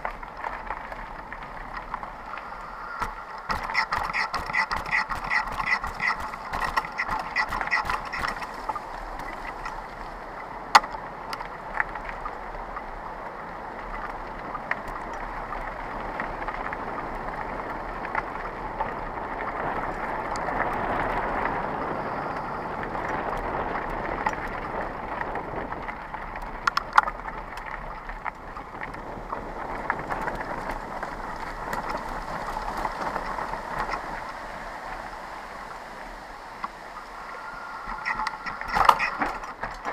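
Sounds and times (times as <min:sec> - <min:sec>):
tyres crunching on gravel: 0:00.0 - 0:12.8, 0:14.0 - 0:39.9
bike rattling and clicking: 0:00.0 - 0:39.9.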